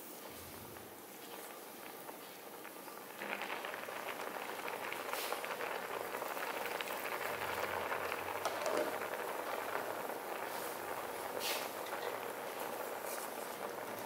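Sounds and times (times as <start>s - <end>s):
milk pudding bubbling in a pan: 0.0s - 14.0s.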